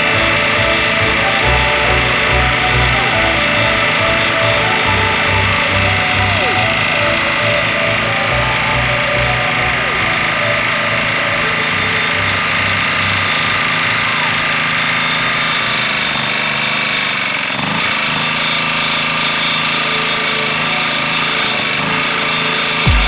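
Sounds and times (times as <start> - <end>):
portable generator engine running: 0.0 - 23.0.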